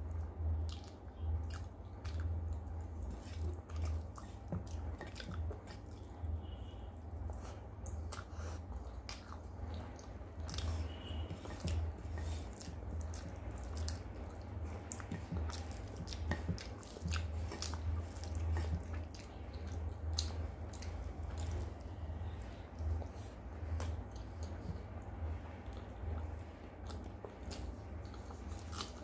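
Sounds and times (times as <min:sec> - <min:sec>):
steady low hum: 0:00.0 - 0:29.0
chewing and lip smacks: 0:00.1 - 0:06.5, 0:07.2 - 0:29.0.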